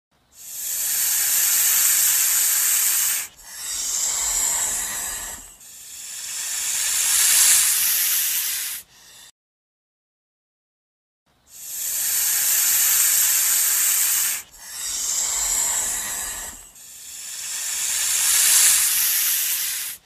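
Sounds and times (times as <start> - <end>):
snake hissing: 0.4 - 9.3, 11.5 - 20.0.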